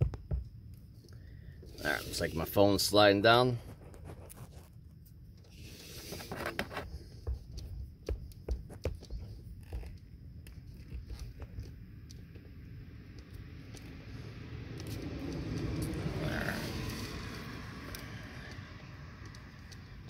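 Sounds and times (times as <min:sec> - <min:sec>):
clicks and scrapes of wire handling: 0:03.6 - 0:20.0.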